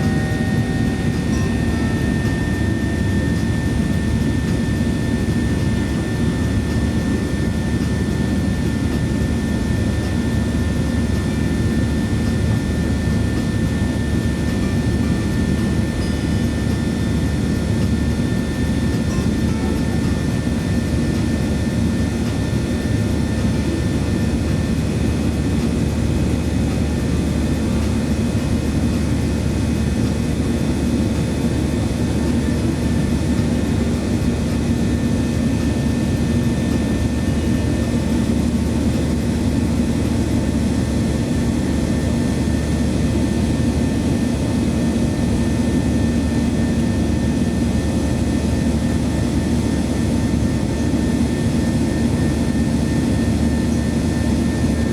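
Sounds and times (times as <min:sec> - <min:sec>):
airplane cabin engine noise: 0:00.0 - 0:54.9.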